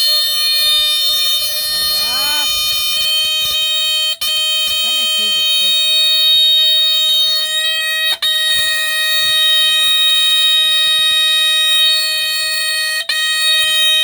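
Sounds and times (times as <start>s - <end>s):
smoke alarm harsh tone: 0.0s - 14.0s.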